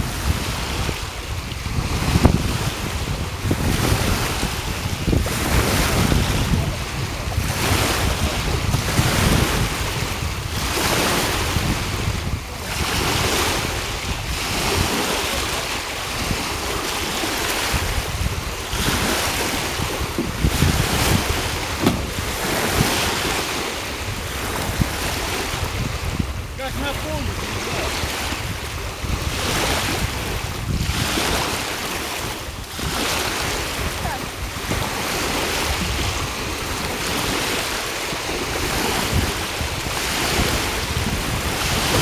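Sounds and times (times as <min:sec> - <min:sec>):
small waves lapping: 0:00.0 - 0:42.0
wind gusting across microphone: 0:00.0 - 0:42.0.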